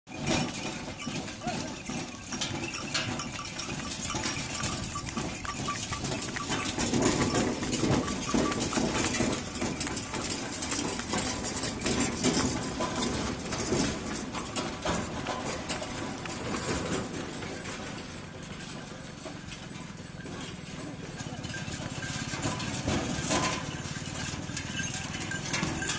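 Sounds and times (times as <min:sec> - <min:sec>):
cart wheels rolling and rattling: 0:00.1 - 0:25.9
hooves clopping on pavement: 0:00.1 - 0:25.9.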